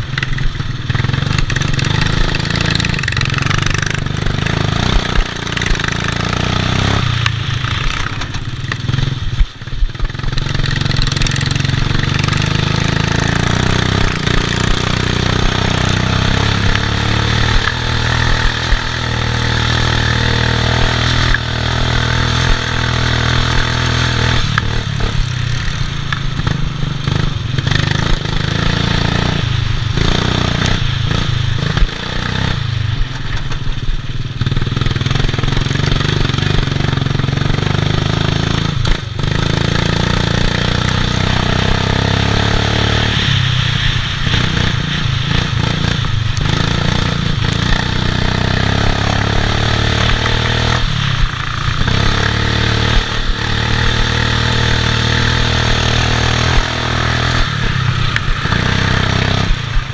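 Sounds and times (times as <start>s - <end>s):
lawn mower engine running hard: 0.0s - 59.9s
mower rattling over bumpy ground: 0.0s - 59.9s.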